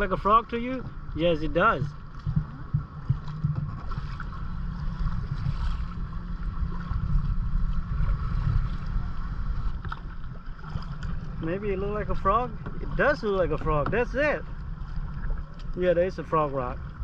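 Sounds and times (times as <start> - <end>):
faint water sounds: 0.0 - 17.0
wind buffeting microphone: 0.0 - 17.0.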